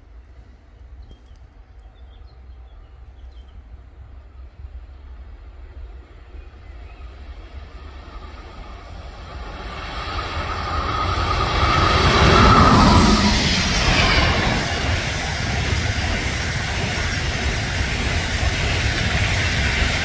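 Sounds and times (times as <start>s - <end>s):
train rumble and rail noise: 0.0s - 20.0s.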